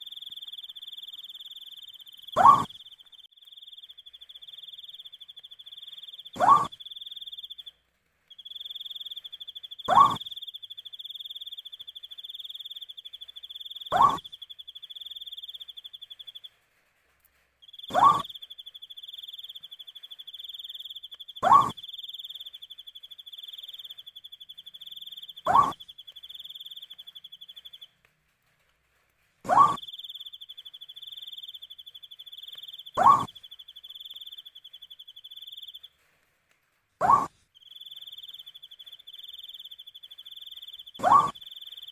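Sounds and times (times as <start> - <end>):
owl calling: 0.0 - 3.1, 3.7 - 7.7, 8.4 - 16.4, 17.7 - 27.9, 29.4 - 35.9, 37.0 - 41.9
cricket trill: 0.0 - 7.7, 8.3 - 16.5, 17.6 - 27.9, 29.5 - 35.9, 37.0 - 41.9.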